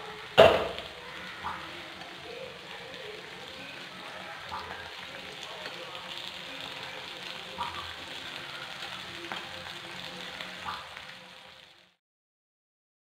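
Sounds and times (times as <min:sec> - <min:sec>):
plantain slices sizzling in oil: 0:00.0 - 0:12.0.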